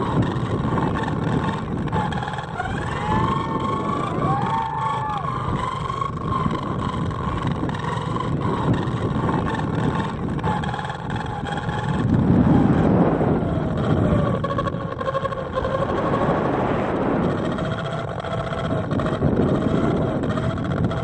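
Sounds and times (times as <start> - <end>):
faint wavering whistling tones: 0.0 - 21.0
wind buffeting microphones: 0.0 - 21.0.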